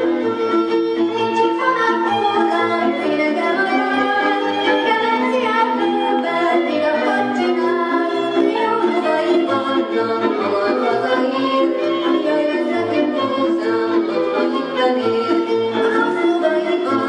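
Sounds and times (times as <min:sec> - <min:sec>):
fiddle: 0:00.0 - 0:17.0
women singing: 0:01.2 - 0:17.0.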